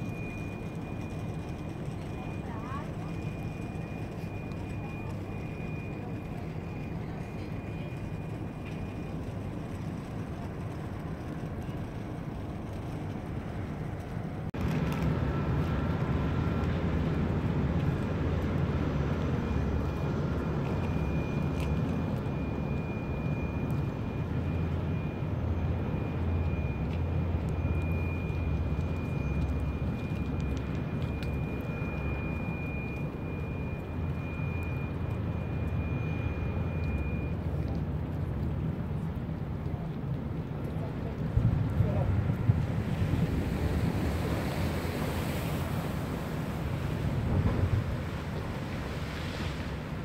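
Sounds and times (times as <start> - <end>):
boat engine rumble: 0.0 - 50.0.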